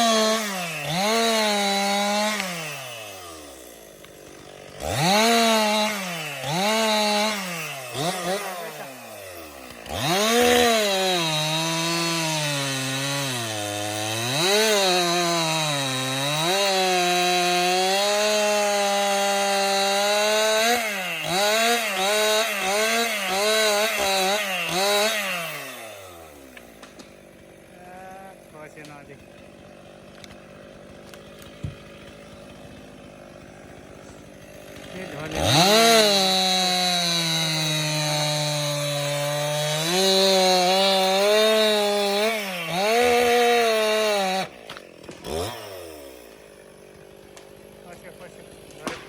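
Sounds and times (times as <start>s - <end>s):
chainsaw revving and cutting wood: 0.0s - 49.0s.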